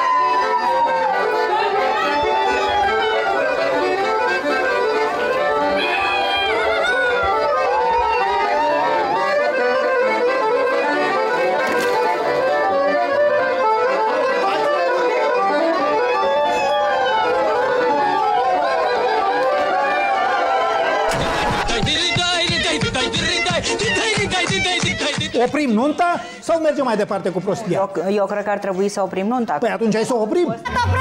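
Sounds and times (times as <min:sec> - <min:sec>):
lively accordion folk music: 0:00.0 - 0:29.2.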